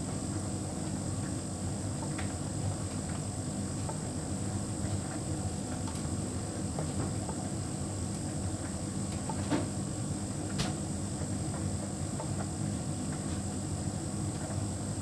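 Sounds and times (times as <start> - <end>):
tumble dryer humming and whining: 0.0 - 15.0.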